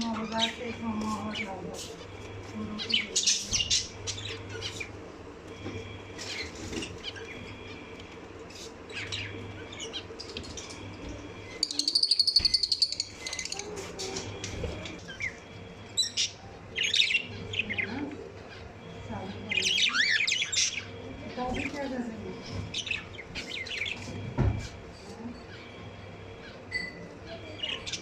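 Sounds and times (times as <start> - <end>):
rapid high bird chatter: 0.0 - 5.1, 6.1 - 24.2, 25.5 - 28.0
lovebirds chirping: 0.0 - 7.9, 8.5 - 24.2.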